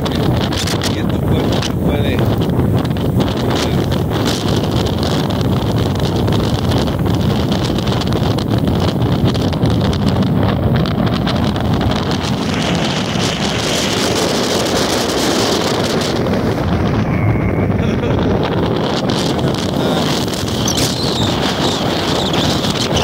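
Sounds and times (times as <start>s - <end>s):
strong wind on microphone: 0.0s - 23.0s.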